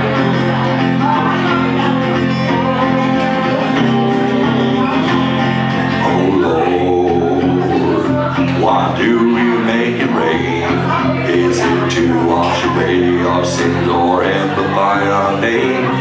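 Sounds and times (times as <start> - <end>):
acoustic guitar: 0.0 - 16.0
man singing into microphone: 0.0 - 16.0.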